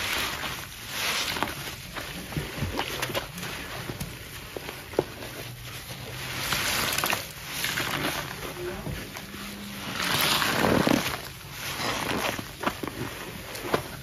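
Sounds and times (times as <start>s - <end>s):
foam crackling: 0.0s - 14.0s
wet paste squelching: 0.0s - 14.0s.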